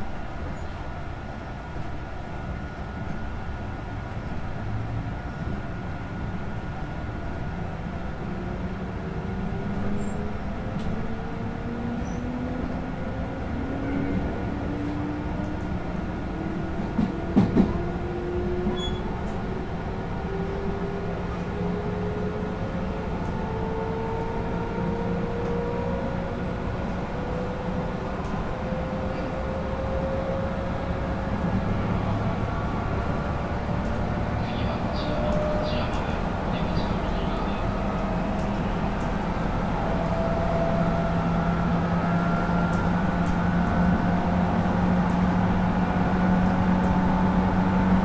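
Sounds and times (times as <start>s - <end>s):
wheels rumbling on rail: 0.0s - 48.0s.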